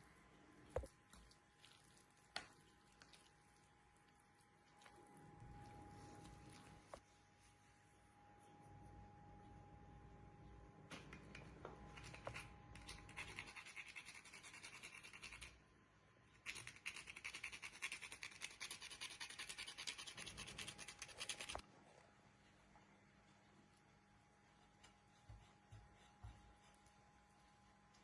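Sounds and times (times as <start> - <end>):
faint steady hum: 0.0 - 17.2, 19.6 - 28.0.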